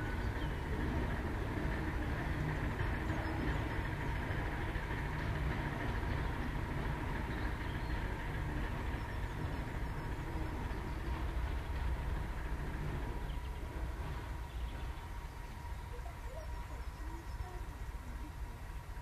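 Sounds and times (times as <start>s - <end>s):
locomotive diesel engine rumbling: 0.0s - 19.0s.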